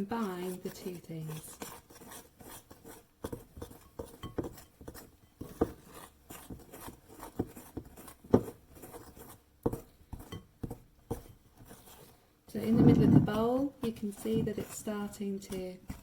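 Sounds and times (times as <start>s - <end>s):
spoon scraping and clinking bowl: 0.0s - 9.3s, 11.2s - 16.0s.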